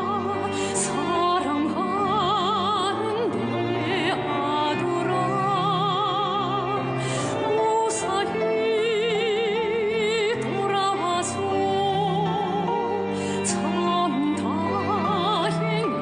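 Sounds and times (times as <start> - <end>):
vibrato melody with accompaniment: 0.0 - 16.0.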